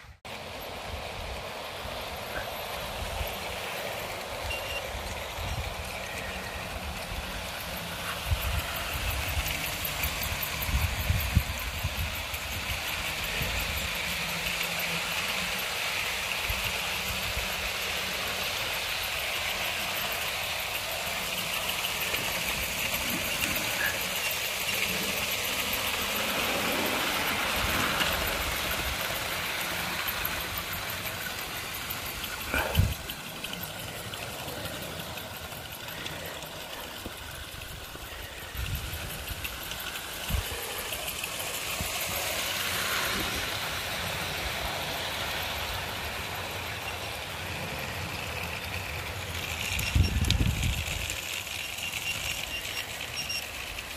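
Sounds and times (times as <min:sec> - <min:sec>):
model train motors whirring: 0:00.0 - 0:53.9
wheels rolling on rails: 0:00.0 - 0:53.9.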